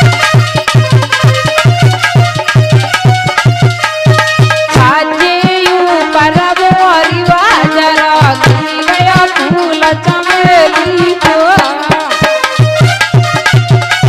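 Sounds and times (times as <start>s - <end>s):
hand drum rhythm: 0.0s - 14.0s
ornamented melody line: 0.0s - 14.0s.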